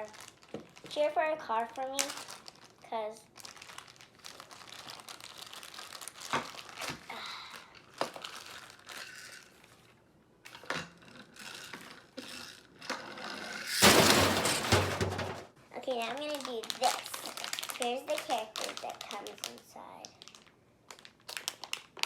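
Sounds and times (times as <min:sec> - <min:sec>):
plastic wrapper crinkling and tearing: 0:00.0 - 0:12.4, 0:15.9 - 0:22.0.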